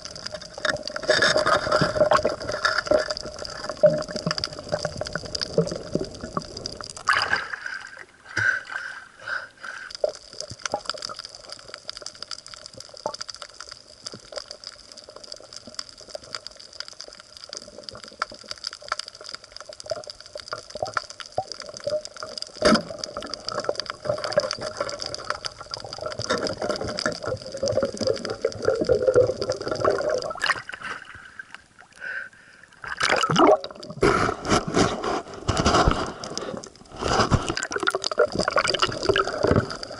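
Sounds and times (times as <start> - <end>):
crackles: 0.0 - 39.9
water gurgling and dripping: 0.0 - 39.9.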